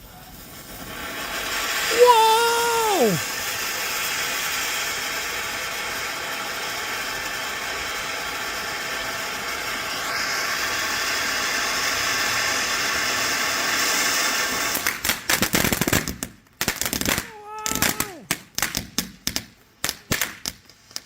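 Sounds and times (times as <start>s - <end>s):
firework crackling pops: 0.0s - 21.0s
firework fountain hissing: 0.0s - 21.0s.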